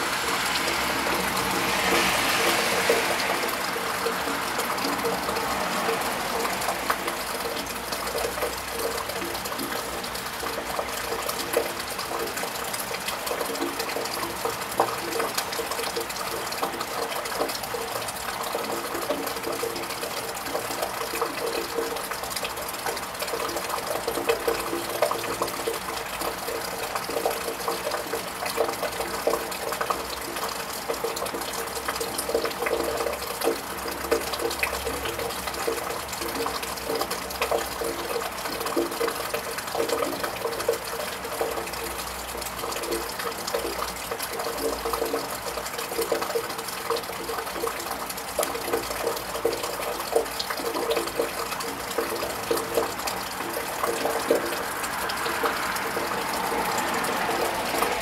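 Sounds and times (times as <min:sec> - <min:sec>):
close drips and splashes: 0:00.0 - 0:58.0
steady rain: 0:00.0 - 0:58.0
water running: 0:00.0 - 0:58.0.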